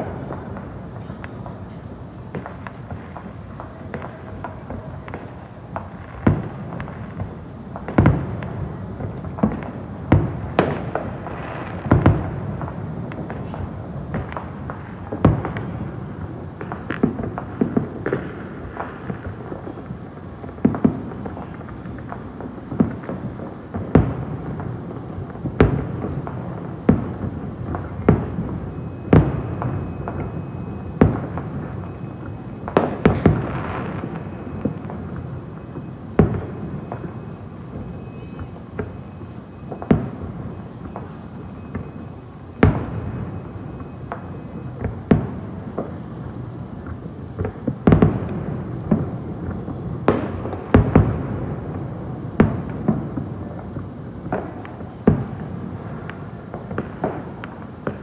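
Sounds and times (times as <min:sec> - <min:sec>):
small firework pops: 0:00.0 - 0:51.8, 0:52.4 - 0:58.0
fireworks booming and cracking: 0:00.0 - 0:58.0.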